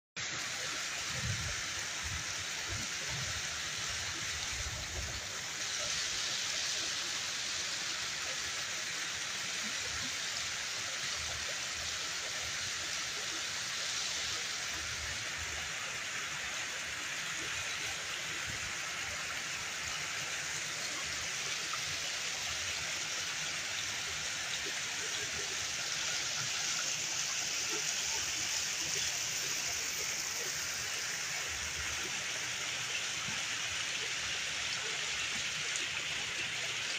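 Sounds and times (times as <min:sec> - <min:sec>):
fountain water splashing: 0:00.2 - 0:36.9.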